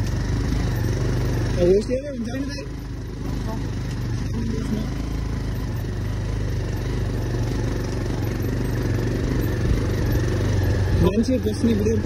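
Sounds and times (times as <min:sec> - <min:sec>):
motorcycle engine drone: 0:00.0 - 0:12.0
road noise: 0:00.0 - 0:12.0.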